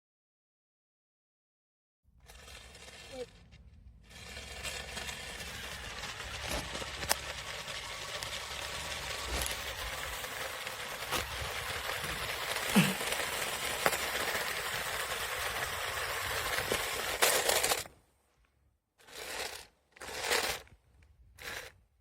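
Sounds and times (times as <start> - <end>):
toy car scraping over rough ground: 2.2 - 18.0, 19.0 - 21.8.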